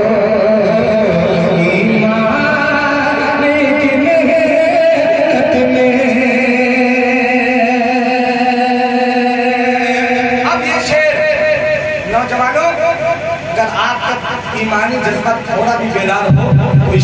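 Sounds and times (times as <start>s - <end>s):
man singing through loudspeakers: 0.0s - 17.0s.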